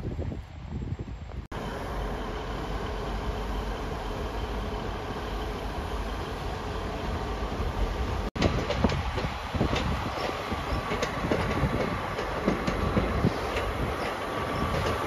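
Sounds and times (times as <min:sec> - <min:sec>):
train engine idling: 0:01.5 - 0:15.0.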